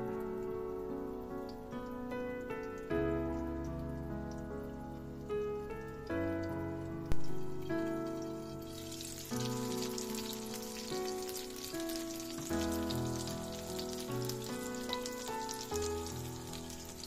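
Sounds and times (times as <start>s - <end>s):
background music of sustained chords: 0.0s - 17.0s
food sizzling in frying pan: 2.5s - 17.0s.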